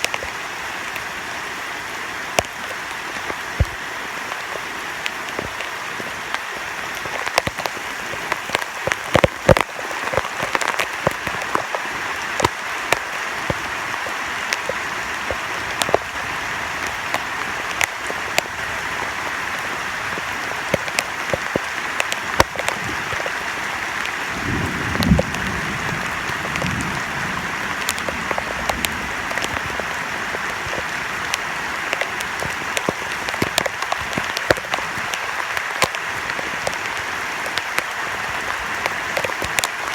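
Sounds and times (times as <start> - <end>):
close raindrop hits: 0.0 - 1.3, 2.2 - 39.9
heavy rain: 0.0 - 39.9
rainwater running: 0.0 - 39.9.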